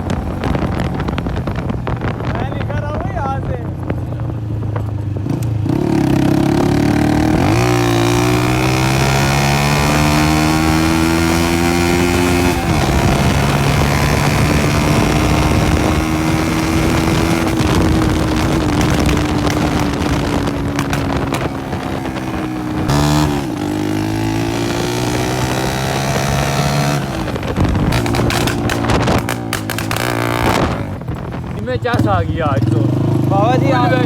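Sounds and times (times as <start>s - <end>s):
motorcycle engine running loud: 0.0s - 34.0s
wind on microphone: 0.0s - 34.0s.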